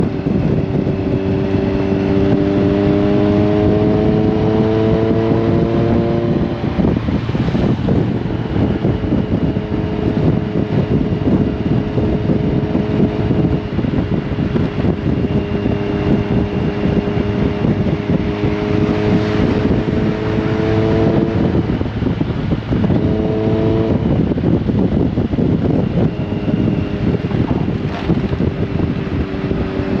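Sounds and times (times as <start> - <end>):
motorcycle engine running: 0.0 - 30.0
wind rush over microphone: 0.0 - 30.0.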